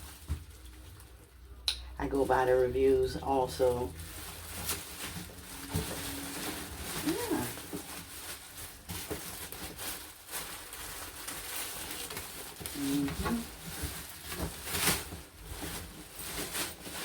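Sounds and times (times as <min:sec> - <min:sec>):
packaging rustling and crinkling: 0:00.0 - 0:01.6, 0:02.6 - 0:17.0.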